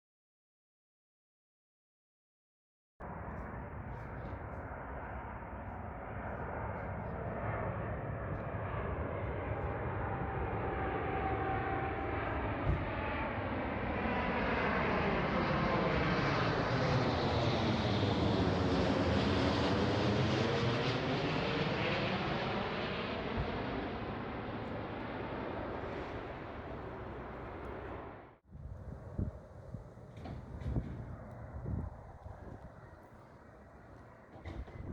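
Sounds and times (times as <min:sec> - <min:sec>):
airliner engine noise overhead: 0:03.0 - 0:34.9.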